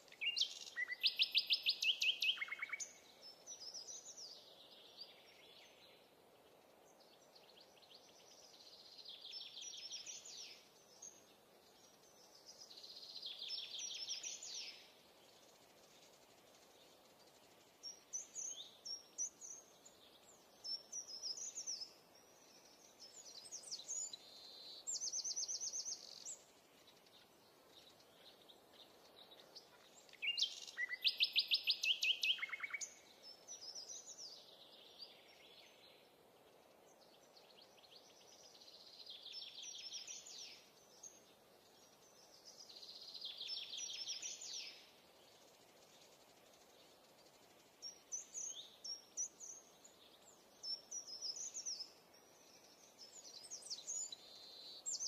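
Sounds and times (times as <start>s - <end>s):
faint steady hiss: 0.0s - 55.0s
birds chirping and trilling: 0.1s - 55.0s.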